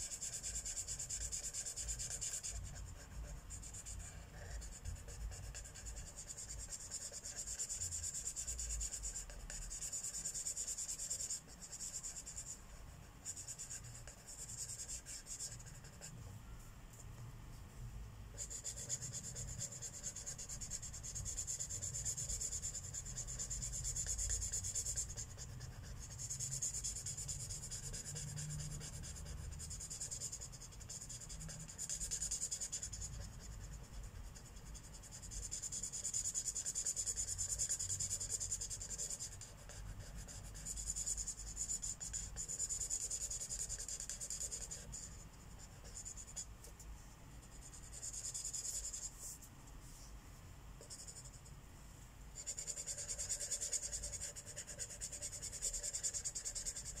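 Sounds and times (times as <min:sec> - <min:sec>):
marker rubbing on paper: 0:00.0 - 0:16.2, 0:18.3 - 0:46.8, 0:47.4 - 0:50.2, 0:50.8 - 0:51.5, 0:52.4 - 0:57.0.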